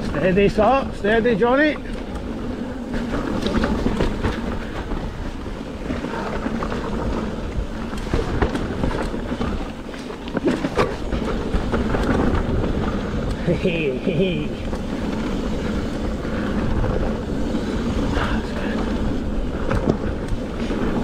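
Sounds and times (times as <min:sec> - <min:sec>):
bike chain and frame rattling: 0:00.0 - 0:21.0
tyres on dirt: 0:00.0 - 0:21.0.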